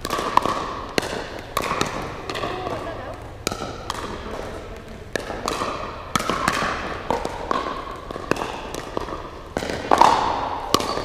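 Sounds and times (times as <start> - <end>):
ball bouncing on hard court: 0.0 - 11.0
paddles striking plastic ball: 0.0 - 11.0.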